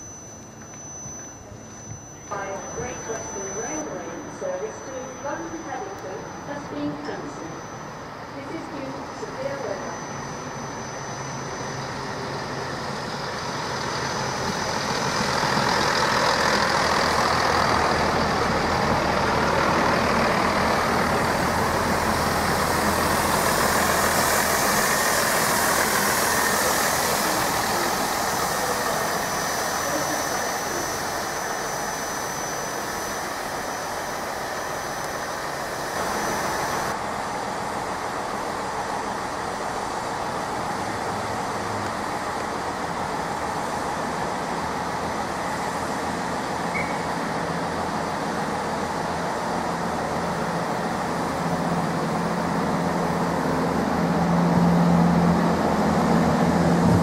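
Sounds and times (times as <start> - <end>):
steady engine hum: 0.0 - 57.0
diesel train passing: 1.5 - 57.0.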